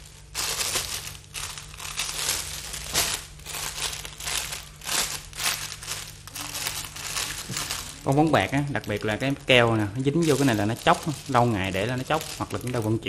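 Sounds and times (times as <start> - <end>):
foil balloons crinkling: 0.0 - 13.0.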